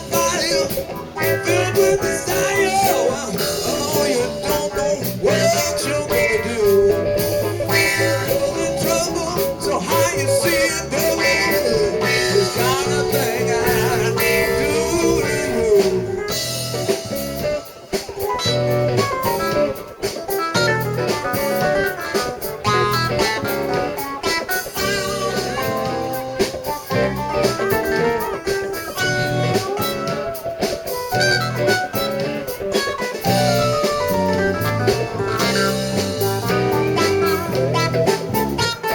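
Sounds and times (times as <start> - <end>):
blues band playing: 0.0 - 38.9
electric guitar: 0.0 - 38.9.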